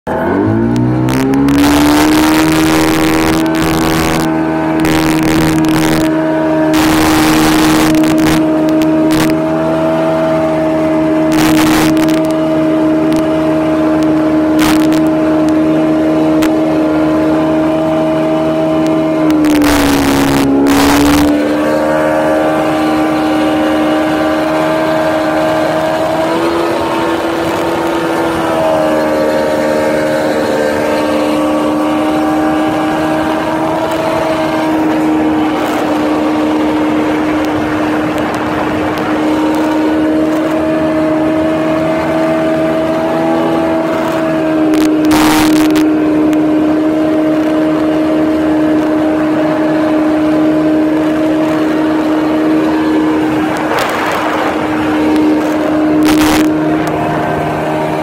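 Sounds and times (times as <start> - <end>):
jet boat engine drone: 0.1 - 58.0
rush of noise: 0.1 - 58.0.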